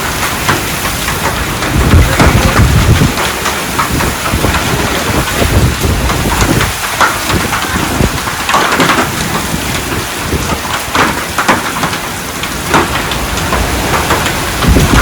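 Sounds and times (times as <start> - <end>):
heavy rain pouring: 0.0 - 15.0
deep thunder rumble: 1.1 - 11.2, 12.6 - 15.0.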